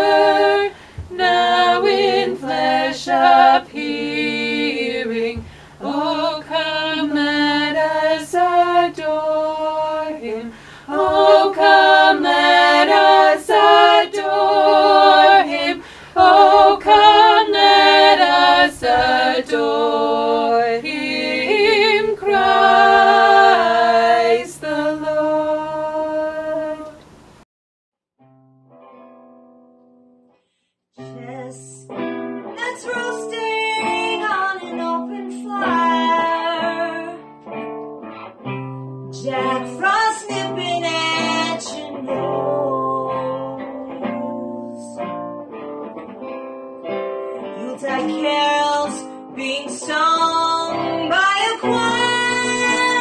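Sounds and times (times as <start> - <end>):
small choir singing a cappella: 0.0 - 27.2, 32.6 - 37.1, 39.2 - 45.2, 47.6 - 53.0.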